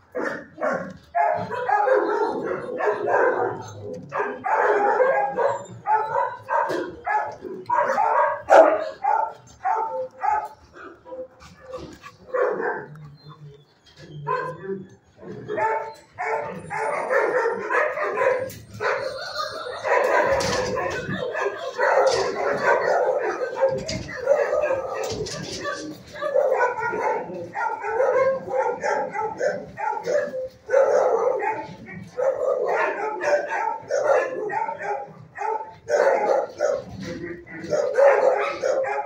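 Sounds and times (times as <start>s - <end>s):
dogs barking: 0.0s - 39.0s.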